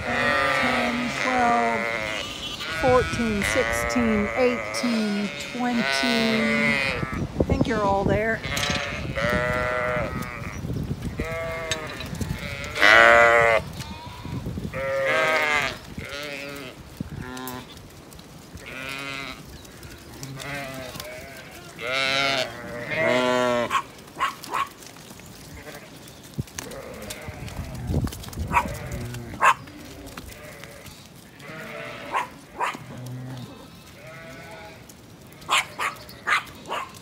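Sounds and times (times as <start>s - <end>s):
sheep bleating: 0.0s - 7.2s, 8.4s - 10.6s, 11.2s - 17.8s, 18.6s - 24.6s, 26.6s - 36.8s.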